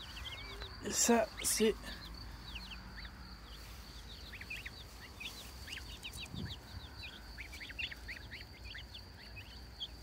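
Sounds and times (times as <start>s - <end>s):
young poultry peeping: 0.0s - 10.0s.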